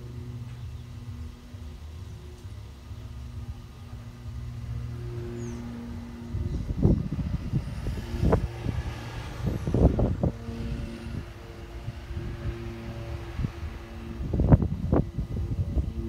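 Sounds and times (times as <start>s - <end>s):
distant turboprop droning: 0.0s - 16.0s.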